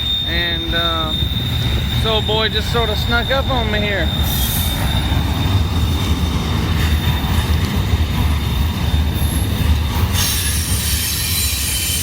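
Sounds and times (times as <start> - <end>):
high-pitched wheel squeal: 0.0 - 6.0, 6.7 - 12.0
freight train wheels rumbling: 0.0 - 12.0.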